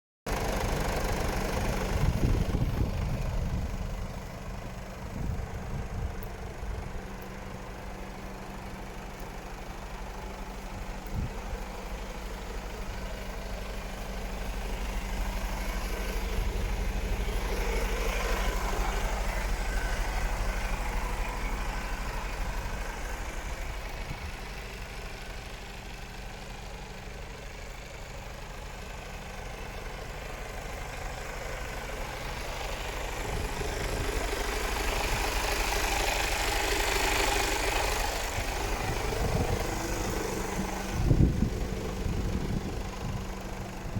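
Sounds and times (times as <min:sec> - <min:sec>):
truck diesel engine idling: 0:00.3 - 0:43.9.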